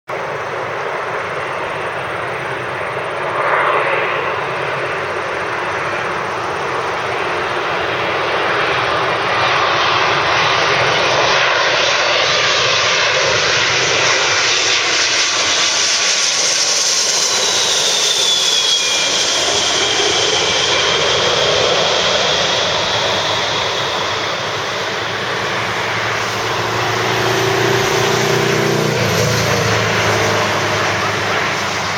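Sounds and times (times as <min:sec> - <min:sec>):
jet engine whine falling in pitch: 0:00.1 - 0:31.9
jet roar: 0:00.1 - 0:31.9.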